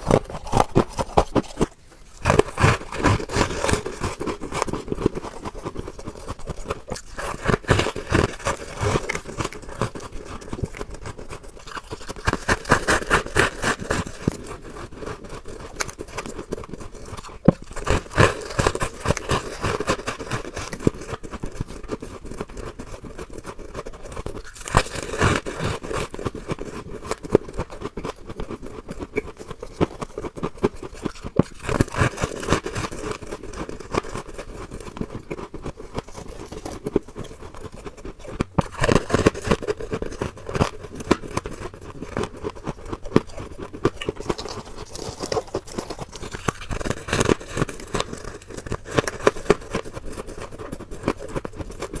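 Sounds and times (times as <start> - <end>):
frost ice crunching and crackling: 0.0 - 52.0.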